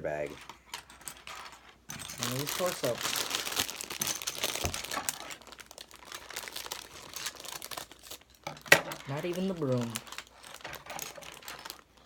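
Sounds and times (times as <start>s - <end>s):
plastic bag crinkling: 0.3s - 12.0s.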